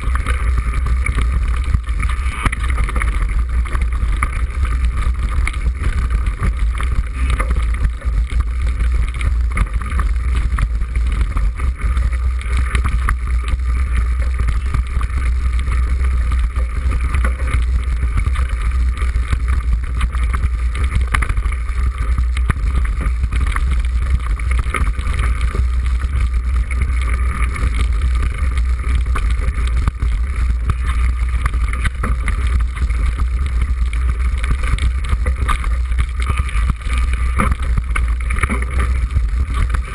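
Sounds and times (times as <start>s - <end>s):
bike rattling over rocks: 0.0s - 39.9s.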